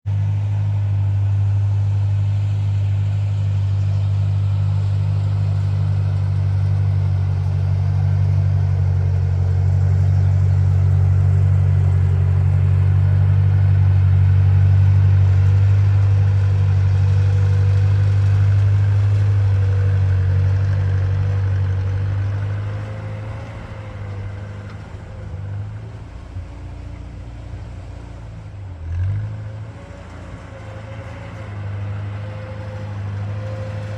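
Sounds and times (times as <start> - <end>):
tractor engine droning: 0.0 - 33.9.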